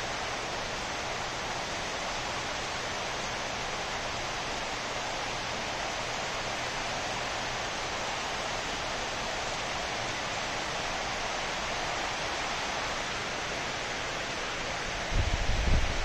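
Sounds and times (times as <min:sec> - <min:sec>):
rain falling on foliage: 0:00.0 - 0:16.0.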